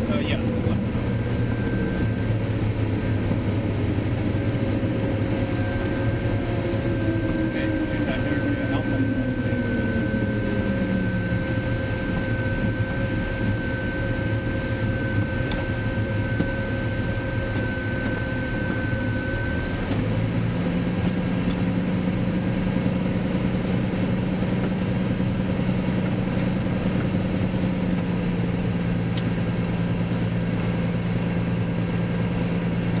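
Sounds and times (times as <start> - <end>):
aircraft engine and propeller: 0.0 - 33.0
high whine: 0.0 - 33.0.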